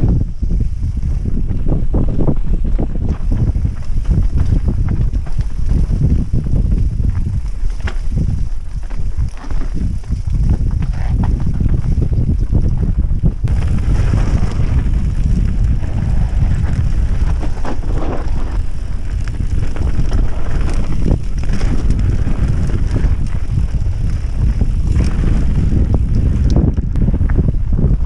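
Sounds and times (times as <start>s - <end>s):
bike tyres rolling over dirt: 0.0s - 28.0s
wind buffeting microphone: 0.0s - 28.0s.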